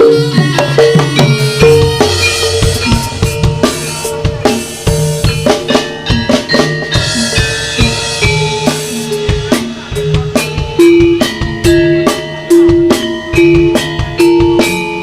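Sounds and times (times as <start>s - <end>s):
fast dense drumming: 0.0s - 15.0s
held melodic instrument notes: 0.0s - 15.0s.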